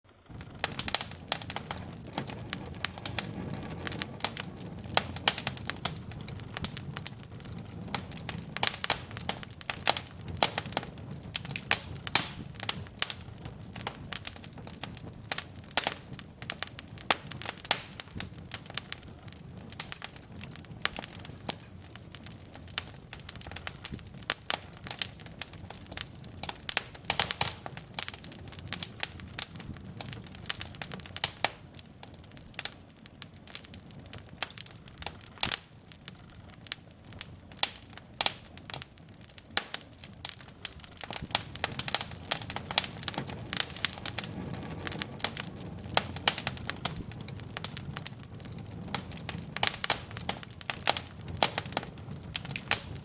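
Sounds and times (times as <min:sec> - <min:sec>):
logs crackling and popping: 0:00.0 - 0:53.0
low rumble of flame: 0:00.1 - 0:53.0.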